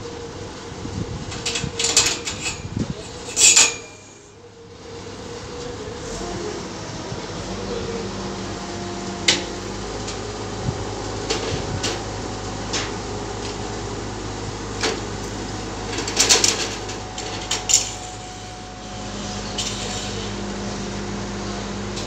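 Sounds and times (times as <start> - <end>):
crane engine running: 0.0 - 22.0.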